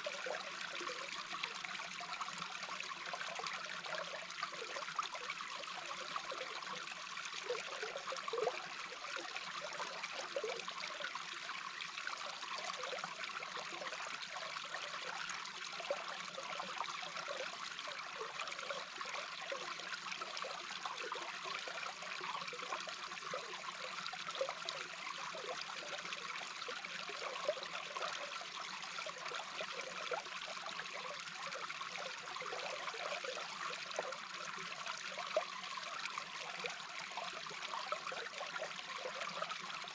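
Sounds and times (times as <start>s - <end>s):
brook water heard underwater: 0.0s - 39.9s.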